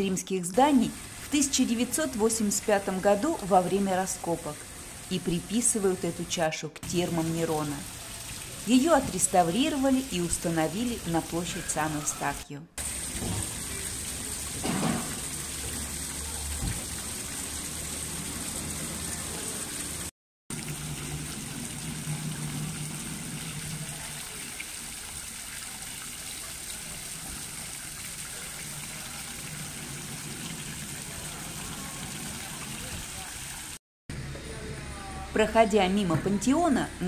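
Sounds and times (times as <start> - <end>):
fountain water splashing: 0.6 - 11.8, 12.8 - 33.8.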